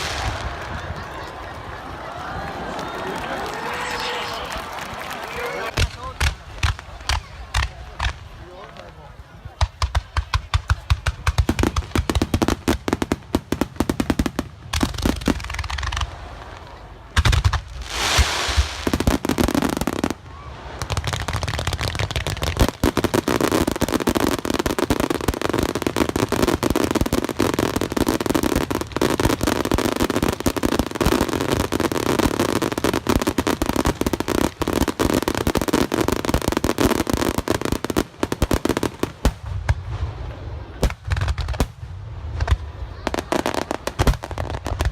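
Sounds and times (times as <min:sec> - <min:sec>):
firework bangs and crackles: 0:00.0 - 0:44.9.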